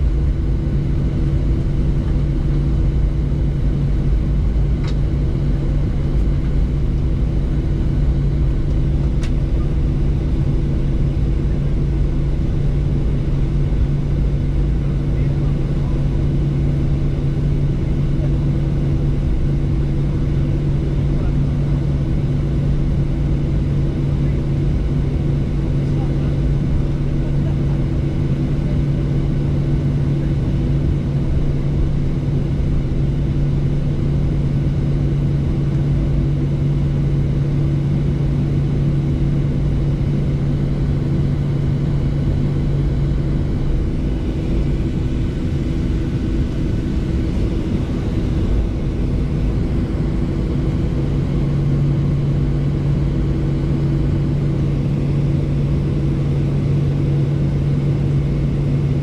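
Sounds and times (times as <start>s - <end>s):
jet engines idling: 0.0s - 59.0s.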